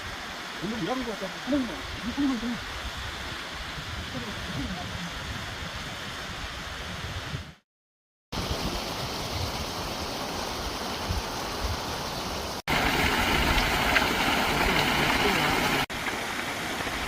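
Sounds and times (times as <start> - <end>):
stream water rushing over rocks: 0.0 - 6.2, 8.4 - 17.0.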